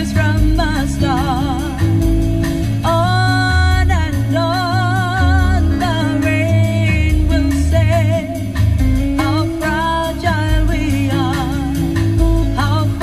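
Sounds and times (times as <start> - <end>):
song over car speakers: 0.0 - 13.0.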